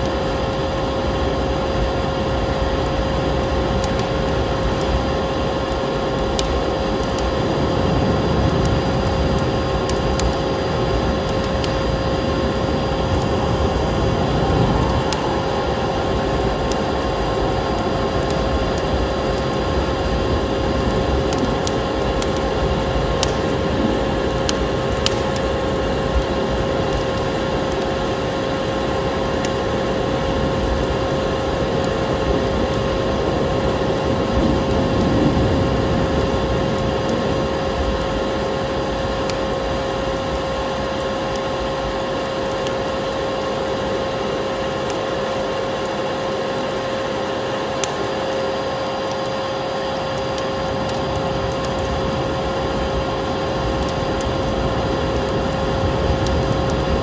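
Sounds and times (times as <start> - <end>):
vacuum cleaner motor droning: 0.0 - 57.0
wood fire crackling: 0.0 - 57.0.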